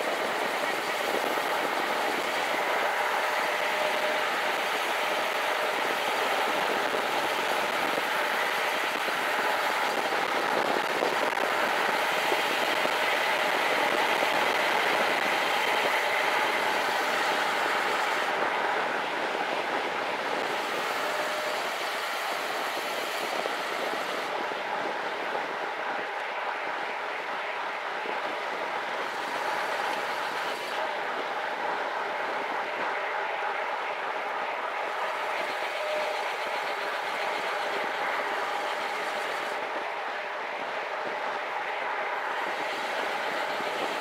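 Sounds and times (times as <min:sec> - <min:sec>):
bike tyres rolling on asphalt: 0:00.0 - 0:44.0
wind rushing on microphone: 0:00.0 - 0:44.0.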